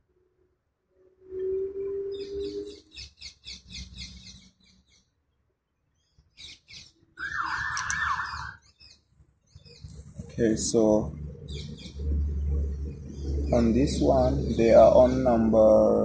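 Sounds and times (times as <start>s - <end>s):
small birds chirping: 2.1s - 5.2s, 6.0s - 16.0s.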